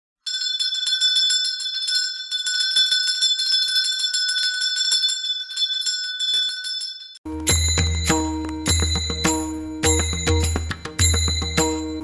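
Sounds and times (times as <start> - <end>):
bright ringing bells: 0.2 - 12.0
fast tinkling chimes: 0.2 - 12.0.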